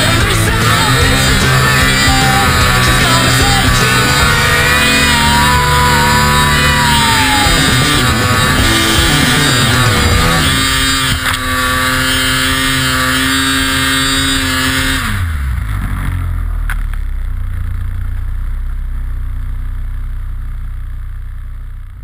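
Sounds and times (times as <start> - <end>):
snowmobile engine revving and idling: 0.0 - 22.0.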